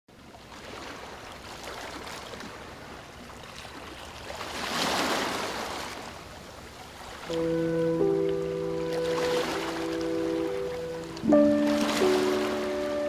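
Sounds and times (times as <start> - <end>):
ocean surf washing: 1.9 - 13.0.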